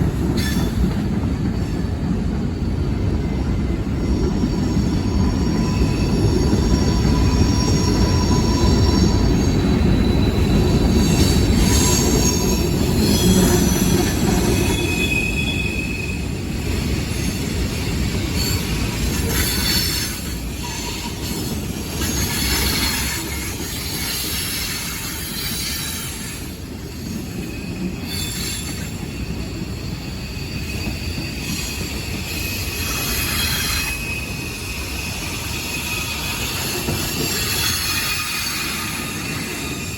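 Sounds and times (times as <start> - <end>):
train rumbling past: 0.0 - 39.9
train wheels squealing on rails: 0.0 - 39.9.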